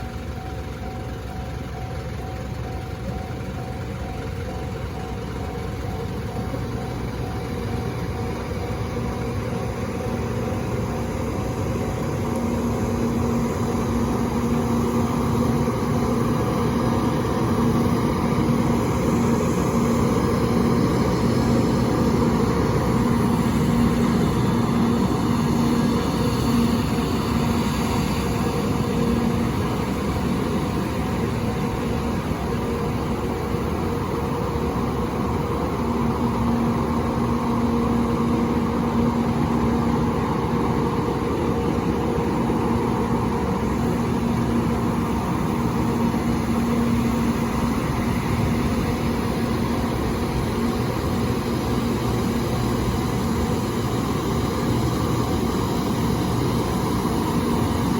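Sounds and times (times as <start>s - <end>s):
low steady hum: 0.0s - 57.9s
train rumbling over level crossing: 0.0s - 57.9s.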